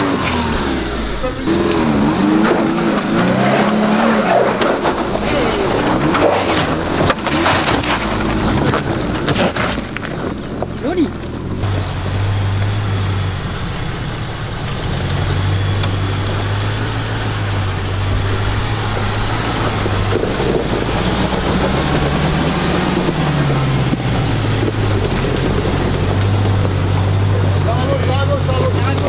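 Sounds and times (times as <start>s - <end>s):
truck engine running at low revs: 0.0s - 29.0s.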